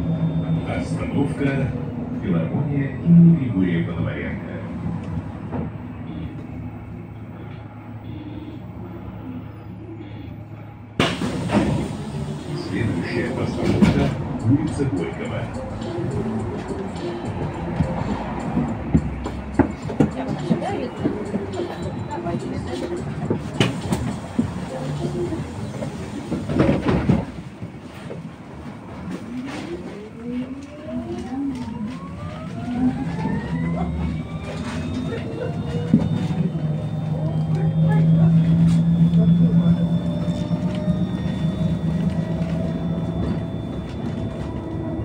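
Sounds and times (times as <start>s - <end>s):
road noise rushing: 0.0s - 45.0s
traffic noise: 0.0s - 45.0s.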